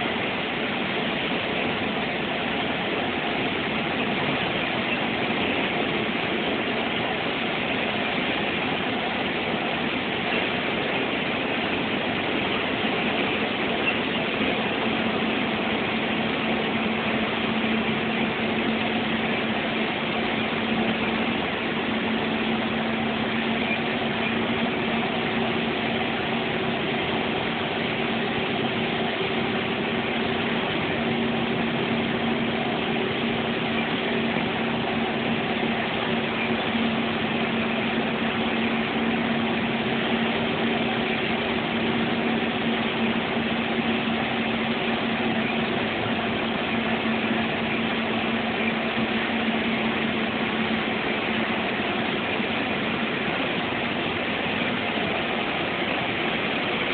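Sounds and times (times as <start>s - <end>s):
bus engine and road noise: 0.0s - 56.9s.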